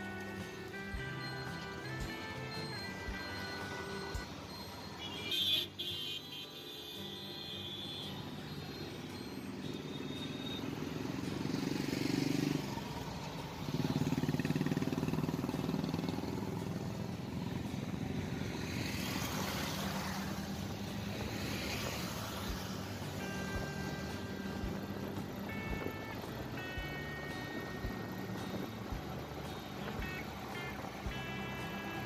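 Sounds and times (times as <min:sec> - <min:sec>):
motorcycles and cars passing: 0:00.0 - 0:32.0
vehicle engine hum: 0:00.0 - 0:32.0.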